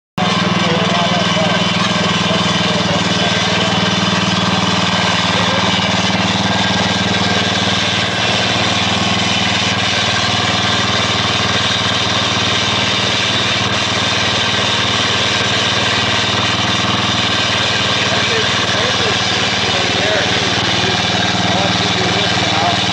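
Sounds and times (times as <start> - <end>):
core drill engine running: 0.2 - 22.9
drill bit cutting concrete: 0.2 - 22.9.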